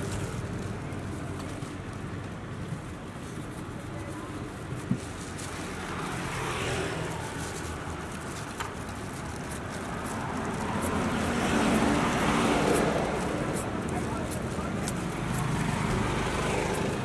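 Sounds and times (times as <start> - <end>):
traffic rumble: 0.0 - 17.0
vehicles passing: 0.0 - 17.0.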